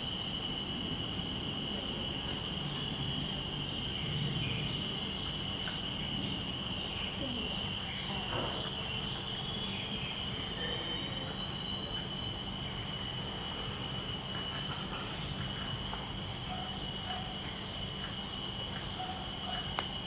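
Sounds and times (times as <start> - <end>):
high-pitched insect drone: 0.0 - 20.0
pulsing insect call: 0.0 - 20.0.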